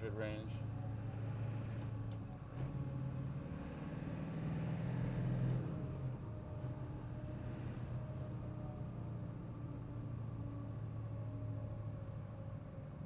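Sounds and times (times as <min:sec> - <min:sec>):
truck engine driving: 0:00.0 - 0:12.9.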